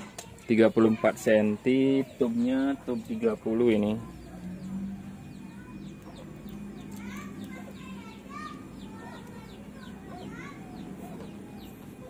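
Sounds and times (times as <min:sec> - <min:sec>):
birds chirping: 0:00.0 - 0:12.0
steady low hum: 0:01.5 - 0:12.0.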